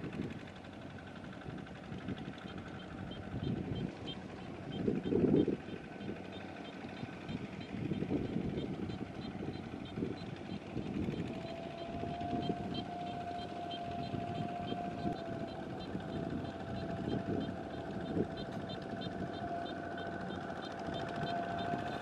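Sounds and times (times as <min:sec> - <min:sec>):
diesel tractor engine rumbling: 0:00.0 - 0:22.0
steady high whine: 0:02.0 - 0:22.0.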